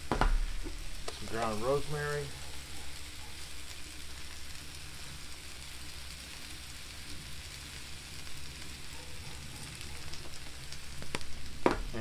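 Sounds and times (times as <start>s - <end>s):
potatoes sizzling on a griddle: 0.0s - 12.0s.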